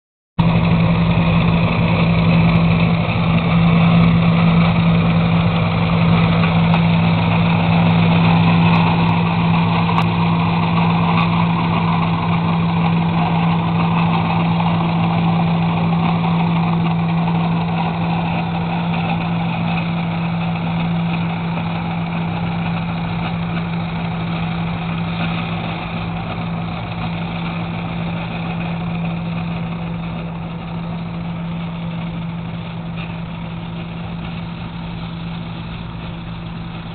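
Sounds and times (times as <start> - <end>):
steam traction engine running: 0.4 - 36.9.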